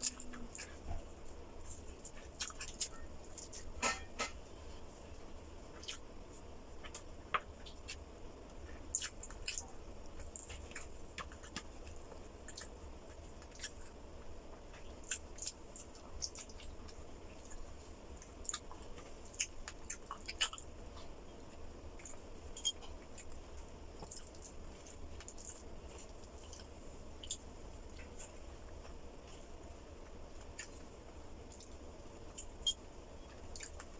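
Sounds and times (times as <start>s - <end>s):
person chewing food: 0.0s - 33.9s.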